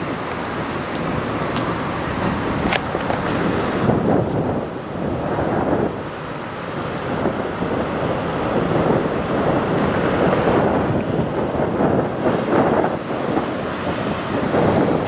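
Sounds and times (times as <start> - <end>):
diesel truck engine rumbling: 0.0 - 15.0
wind noise on microphone: 0.0 - 15.0.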